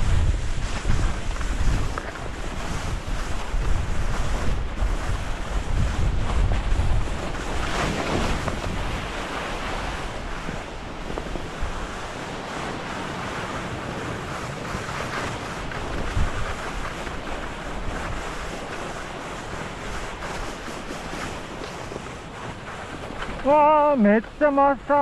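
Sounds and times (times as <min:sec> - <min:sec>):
skis hissing over snow: 0:00.0 - 0:24.6
wind buffeting microphone: 0:00.0 - 0:25.0.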